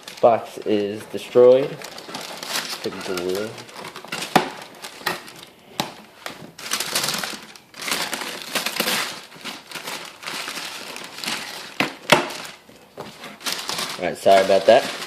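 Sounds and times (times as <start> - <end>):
paper and cardboard crinkling: 0.0 - 15.0.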